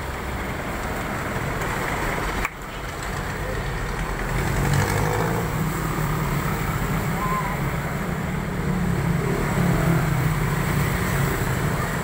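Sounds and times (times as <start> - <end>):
city street traffic: 0.0 - 12.0
vehicle engine rumble: 0.0 - 12.0.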